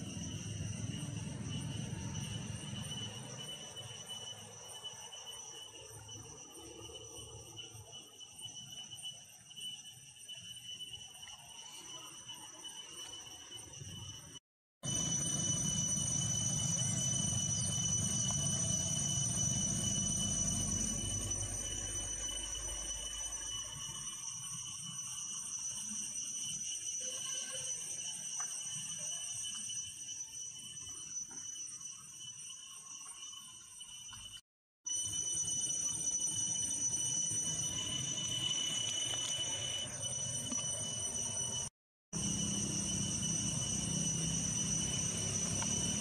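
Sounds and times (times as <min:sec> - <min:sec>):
insect chirring: 0:00.0 - 0:46.0.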